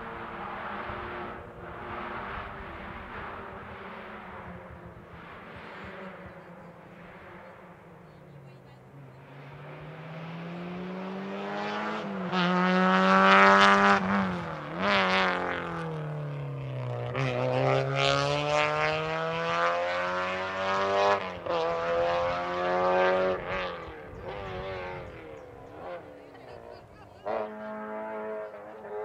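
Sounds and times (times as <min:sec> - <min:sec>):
rally car engine passing: 0:00.0 - 0:29.0.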